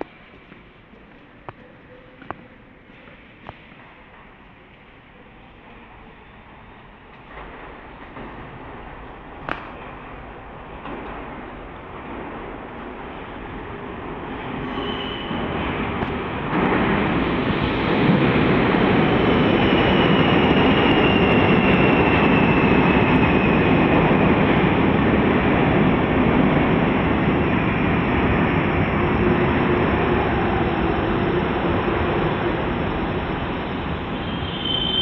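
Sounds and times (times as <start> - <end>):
train wheels rumbling: 0.0 - 35.0.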